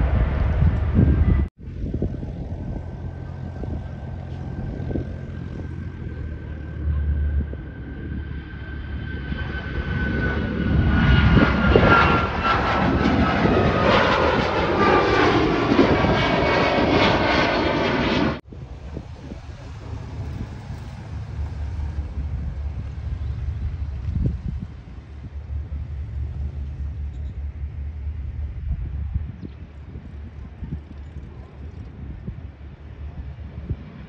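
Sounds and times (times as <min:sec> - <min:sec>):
jet engine whine falling in pitch: 0:00.0 - 0:30.1
jet engines roaring overhead: 0:00.0 - 0:34.0.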